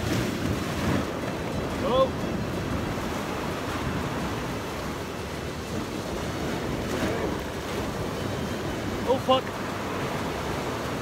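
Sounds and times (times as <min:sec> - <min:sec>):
surf washing against rocks: 0:00.0 - 0:11.0
wind on microphone: 0:00.0 - 0:11.0.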